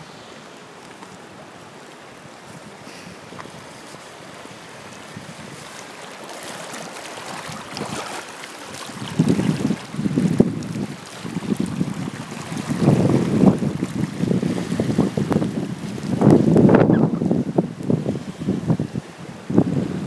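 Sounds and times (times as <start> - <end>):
rushing floodwater: 0.0 - 20.0.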